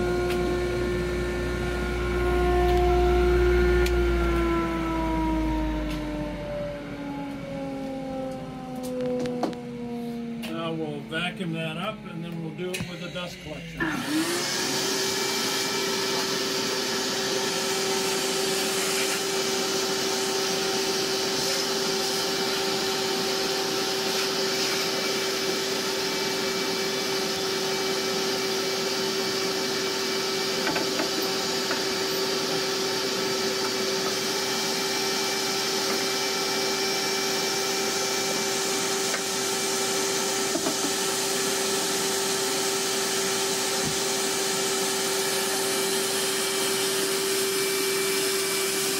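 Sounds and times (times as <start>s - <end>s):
shop vacuum running: 0.0s - 48.9s.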